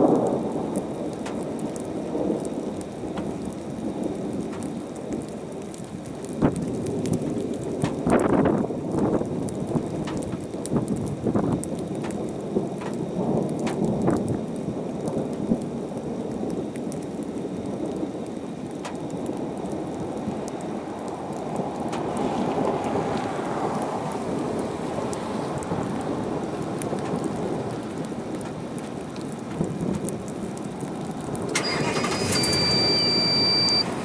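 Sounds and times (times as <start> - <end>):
rain falling: 0.0 - 34.0
sharp raindrop impacts: 0.0 - 34.0
thunder rumbling: 0.0 - 34.0.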